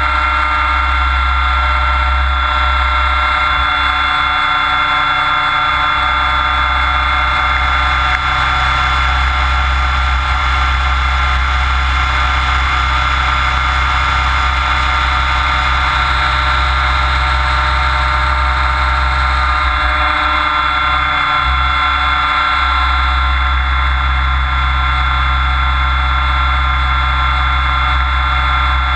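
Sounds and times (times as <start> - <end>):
rc helicopter motor drone: 0.0 - 28.9.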